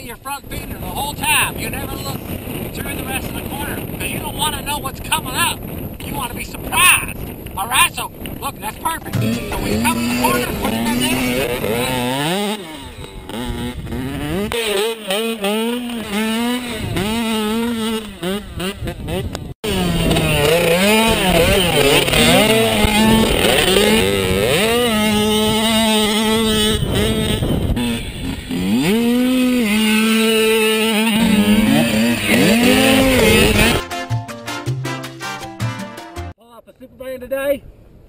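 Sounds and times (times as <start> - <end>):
dirt bike engines revving: 0.0 - 33.9.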